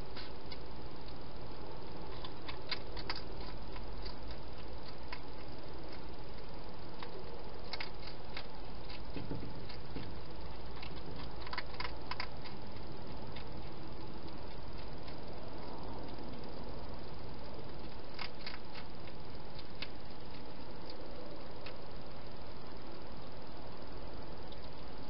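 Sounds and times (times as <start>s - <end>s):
hedgehog crunching food: 0.0s - 23.6s
low hiss and hum: 0.0s - 25.0s.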